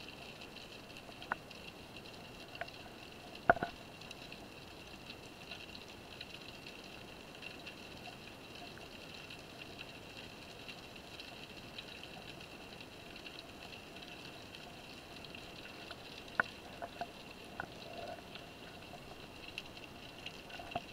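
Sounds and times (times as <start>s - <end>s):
underwater hiss with crackle: 0.0s - 20.9s.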